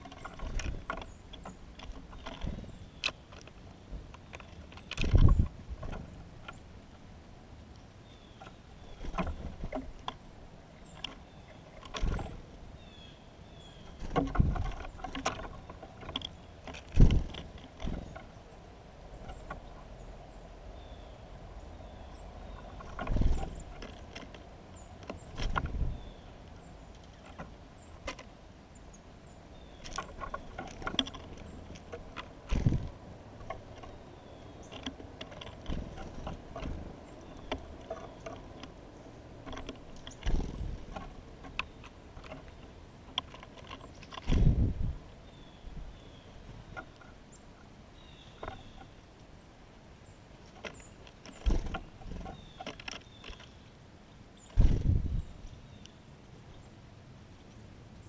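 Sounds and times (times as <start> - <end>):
birds pecking clicks: 0.0 - 6.7, 7.7 - 18.5, 19.1 - 56.6
birds thumping on feeder: 0.0 - 6.7, 8.3 - 18.5, 19.2 - 20.0, 21.8 - 47.3, 48.0 - 49.1, 50.0 - 53.8, 54.4 - 55.9.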